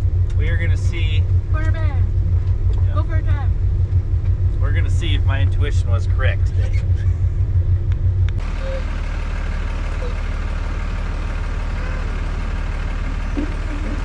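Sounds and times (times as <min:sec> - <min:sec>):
boat engine rumble: 0:00.0 - 0:14.0
vehicle engine humming: 0:00.0 - 0:14.0.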